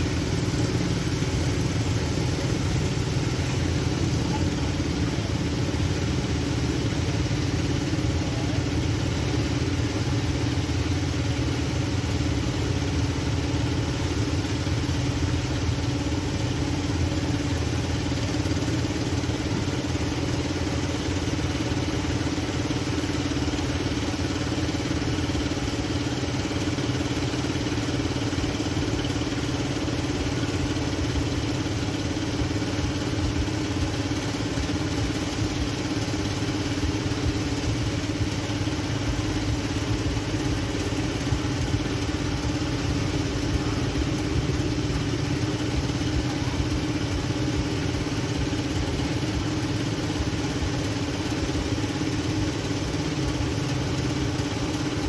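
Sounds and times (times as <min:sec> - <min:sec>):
vehicle engine running steadily: 0:00.0 - 0:55.0.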